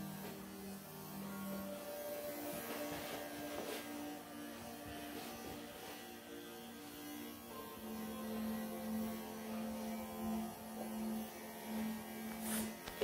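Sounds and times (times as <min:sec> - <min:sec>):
electric clippers humming: 0:00.0 - 0:13.0.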